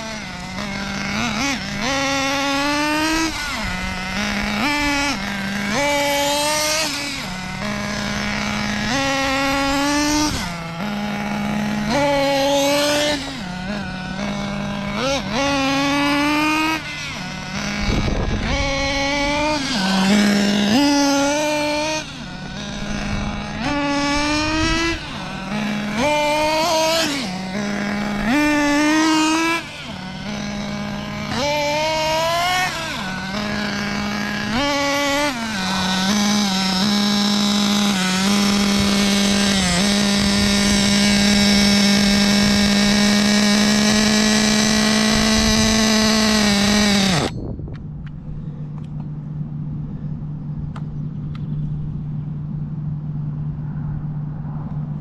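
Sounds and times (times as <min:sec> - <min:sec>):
low steady hum: 0:00.0 - 0:55.0
nitro engine revving: 0:00.0 - 0:55.0.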